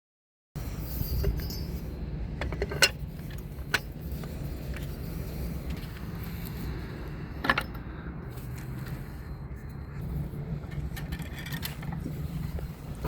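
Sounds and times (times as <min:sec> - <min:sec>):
steady low rumble: 0:00.6 - 0:13.0.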